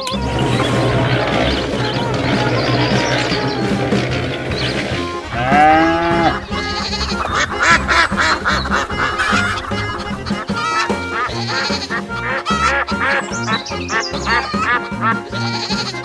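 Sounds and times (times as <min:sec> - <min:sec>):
loud pitched call: 0:00.0 - 0:14.8
background music: 0:00.0 - 0:16.0.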